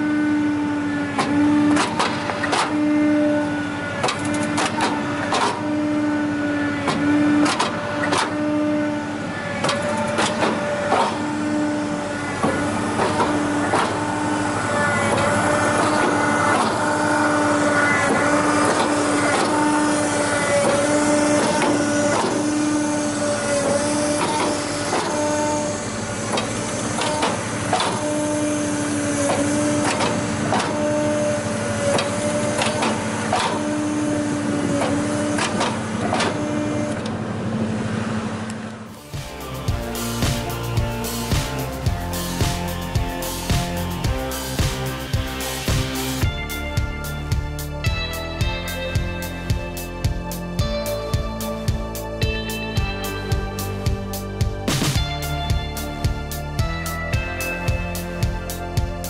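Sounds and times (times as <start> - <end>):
hydraulic press motor hum: 0.0 - 59.0.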